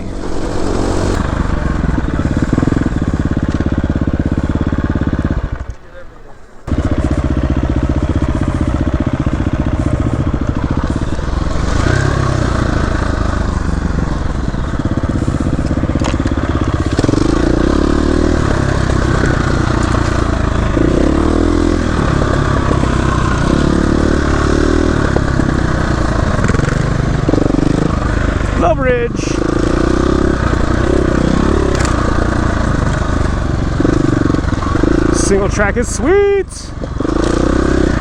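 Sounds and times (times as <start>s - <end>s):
dirt bike engine running: 0.0s - 38.0s
wind and trail noise: 0.0s - 38.0s.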